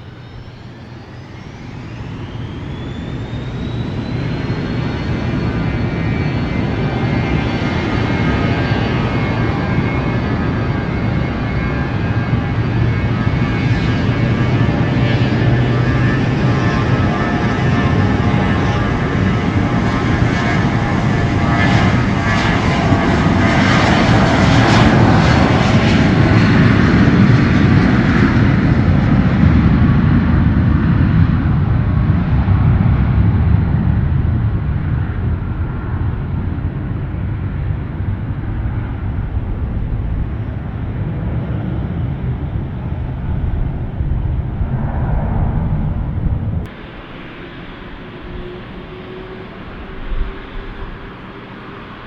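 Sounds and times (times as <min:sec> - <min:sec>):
airliner engines passing: 0:00.0 - 0:52.0.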